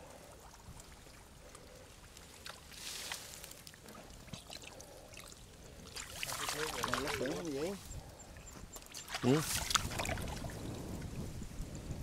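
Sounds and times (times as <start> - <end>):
water splashing and trickling: 0.0 - 11.7.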